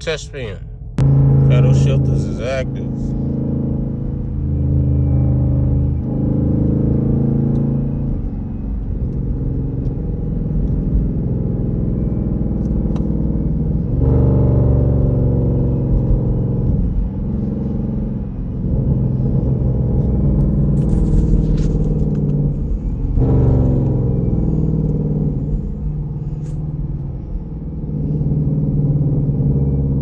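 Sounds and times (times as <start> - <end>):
car engine shifting gears: 0.0 - 30.0.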